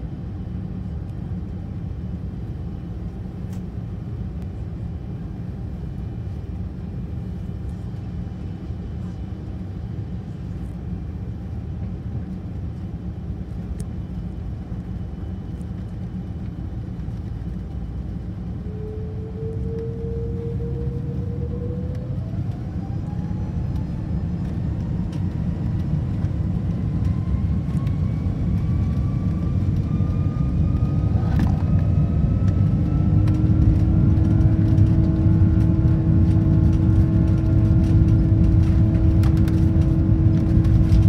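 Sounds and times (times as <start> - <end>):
jet engines rumbling: 0.0 - 41.0.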